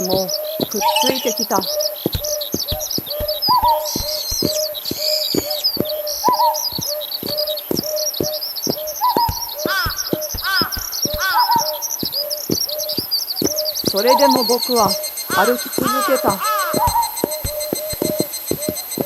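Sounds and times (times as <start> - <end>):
falling chirps: 0.0 - 19.0
lower bird call: 0.0 - 19.0
small birds chirping: 0.0 - 19.0.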